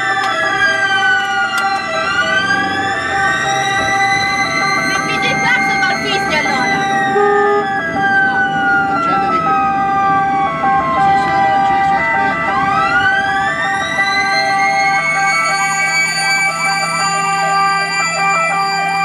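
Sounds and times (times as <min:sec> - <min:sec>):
fast warbling yelp siren: 0:00.0 - 0:19.0
two-note ambulance siren: 0:00.0 - 0:19.0
wail siren: 0:00.0 - 0:19.0.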